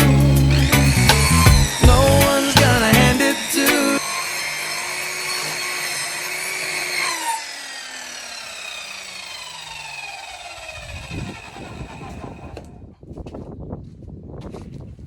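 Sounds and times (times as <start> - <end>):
chop saw cutting log: 0.0 - 12.9
saw blade spinning down: 0.0 - 12.9.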